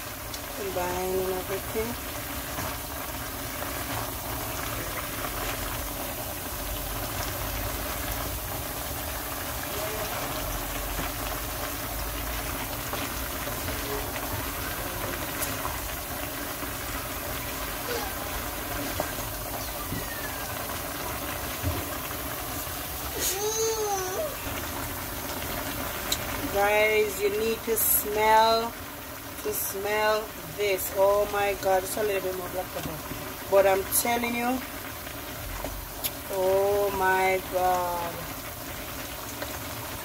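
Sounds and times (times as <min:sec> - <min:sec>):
vegetables cooking in a pot: 0:00.0 - 0:40.0.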